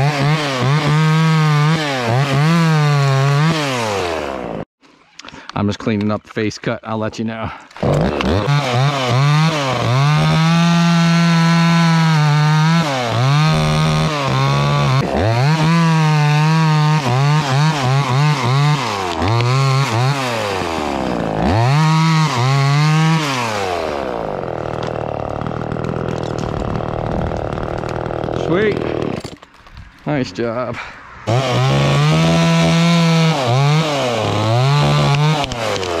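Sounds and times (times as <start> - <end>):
chainsaw cutting wood: 0.0 - 4.7, 7.7 - 29.9, 31.2 - 36.0.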